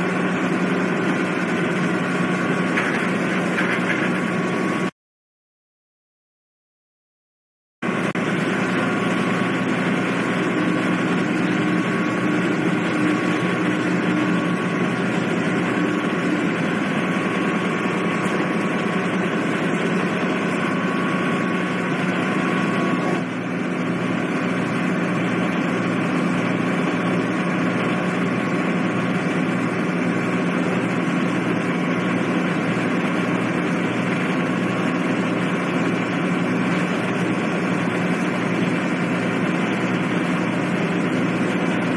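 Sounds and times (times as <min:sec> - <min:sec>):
ferry diesel engines droning: 0:00.0 - 0:04.9, 0:07.8 - 0:41.9.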